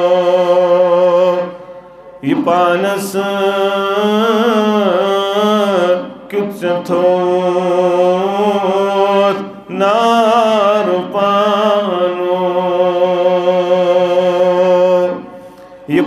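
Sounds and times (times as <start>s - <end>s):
man chanting unaccompanied: 0.0s - 1.6s, 2.2s - 15.3s.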